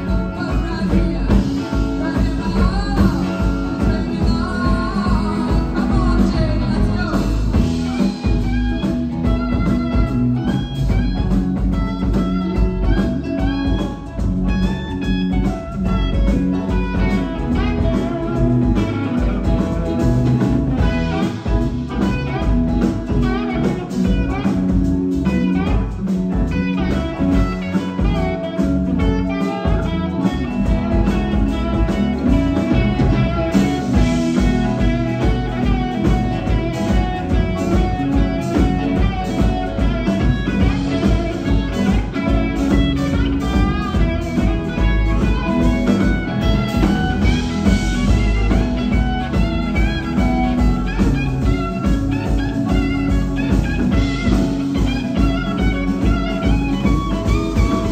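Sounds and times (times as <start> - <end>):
blues-rock band playing: 0.0 - 57.9
electric guitar solo: 0.0 - 57.9.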